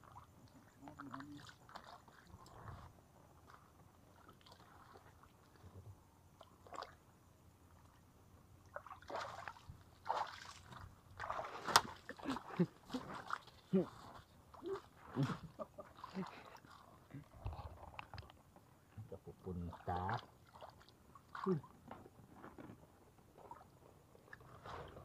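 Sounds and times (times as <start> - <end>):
shallow water sloshing and splashing: 0.0 - 8.0, 8.6 - 17.1, 19.6 - 22.2, 23.3 - 25.0.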